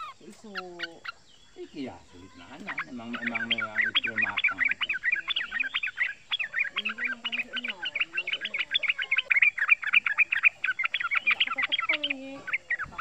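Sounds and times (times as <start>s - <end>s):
bird bubbling chirps: 0.0s - 13.0s.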